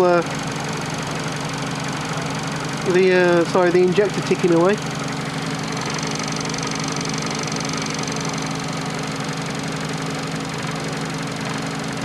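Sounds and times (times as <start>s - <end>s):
car engine idling: 0.0s - 12.0s
fuel injector ticking: 0.2s - 12.0s.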